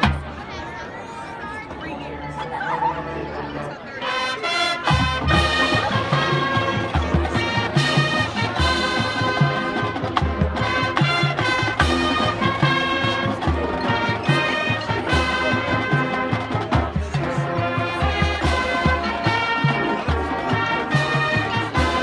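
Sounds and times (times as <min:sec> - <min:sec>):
brass chords: 0:03.0 - 0:22.0
marching drums: 0:04.2 - 0:22.0.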